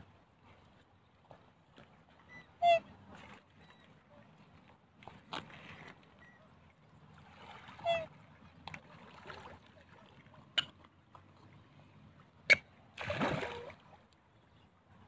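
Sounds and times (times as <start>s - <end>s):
water splashing and lapping: 0.0s - 15.0s.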